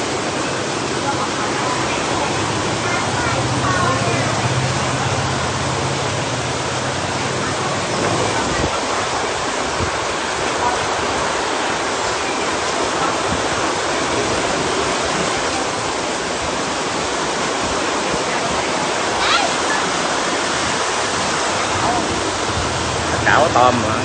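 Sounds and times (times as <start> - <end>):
water rushing in aquarium: 0.0 - 24.0.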